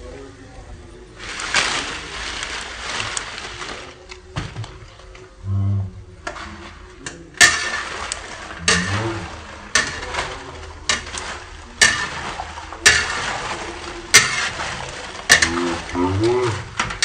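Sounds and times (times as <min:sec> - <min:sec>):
crackers frying in oil: 0:00.0 - 0:05.4, 0:06.0 - 0:17.0.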